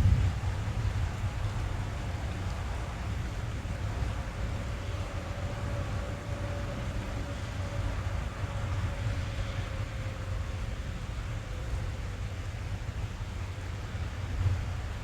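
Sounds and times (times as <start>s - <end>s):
deep steady rumble: 0.0s - 15.0s
rain drumming on car roof: 0.0s - 15.0s.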